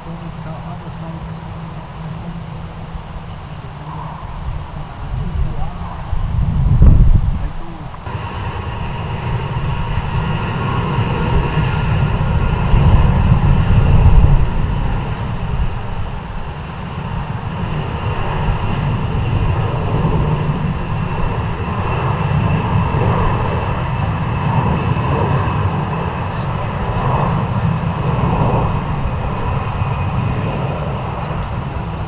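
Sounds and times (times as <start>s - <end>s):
constant high whine: 0.0s - 32.0s
jet engines low rumble: 0.0s - 32.0s.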